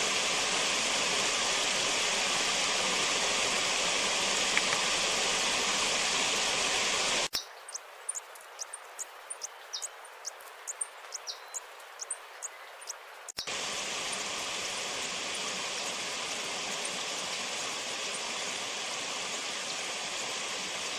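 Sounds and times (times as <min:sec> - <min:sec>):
steady rushing hiss: 0:00.0 - 0:20.9.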